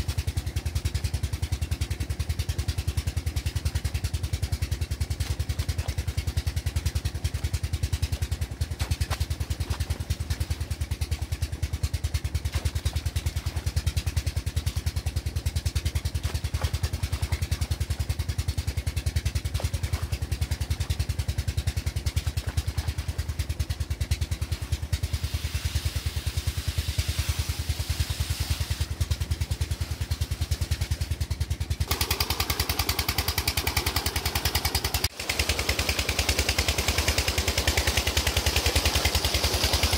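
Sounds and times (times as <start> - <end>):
diesel engine thumping: 0.0 - 39.9
water gushing from pipe: 0.0 - 39.9.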